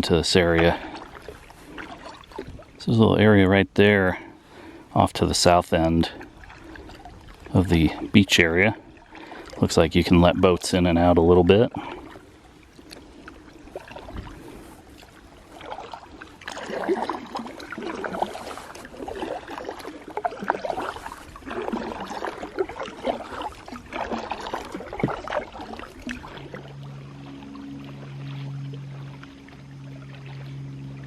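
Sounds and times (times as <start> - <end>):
kayak paddle splashing: 0.0 - 31.0.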